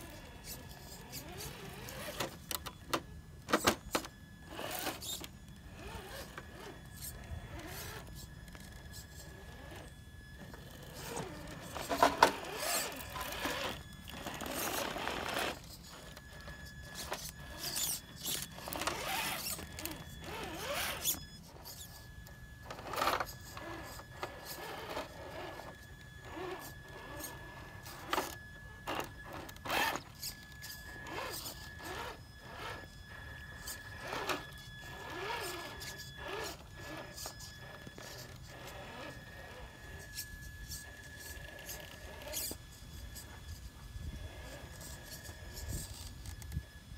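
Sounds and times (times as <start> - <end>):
electric motor whining in bursts: 0.0 - 46.9.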